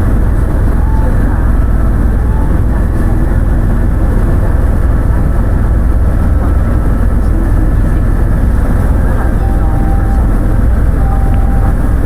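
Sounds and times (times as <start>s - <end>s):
helicopter engine and rotor rumble: 0.0s - 12.0s.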